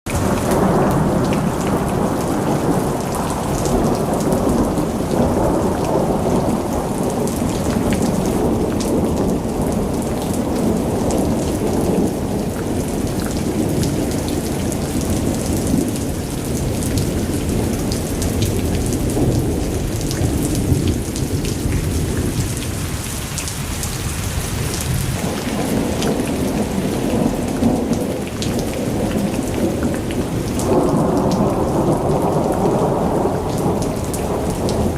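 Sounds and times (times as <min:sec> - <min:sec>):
heavy rain: 0:00.0 - 0:34.9
rolling thunder: 0:00.1 - 0:23.1, 0:23.7 - 0:34.9.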